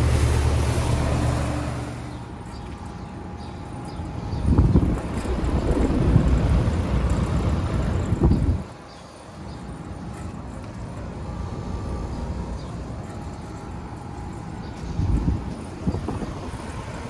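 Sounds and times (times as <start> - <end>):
air conditioner unit running: 0.0 - 17.0
fan wind buffeting microphone: 0.0 - 17.0.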